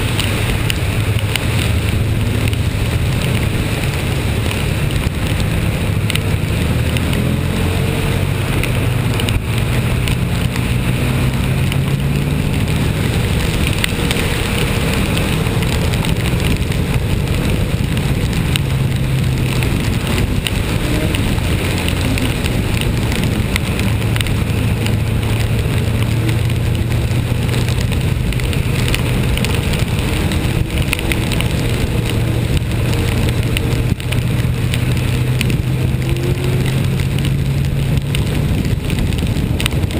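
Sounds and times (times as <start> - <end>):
rain and wet road noise: 0.0 - 39.9
vehicle engine droning: 0.0 - 39.9.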